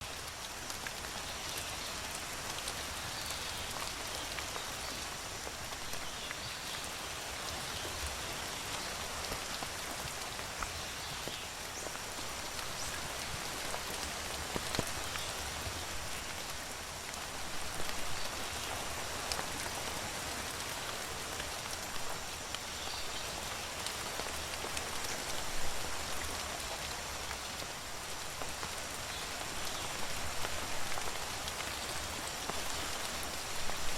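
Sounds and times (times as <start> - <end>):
rain drops pattering: 0.0 - 33.9.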